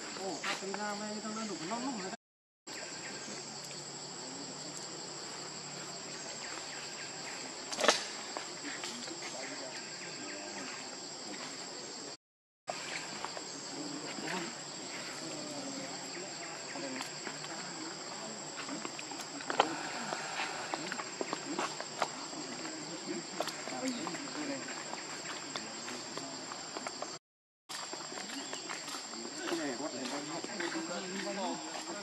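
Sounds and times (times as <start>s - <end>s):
forest insects droning: 0.0s - 32.0s.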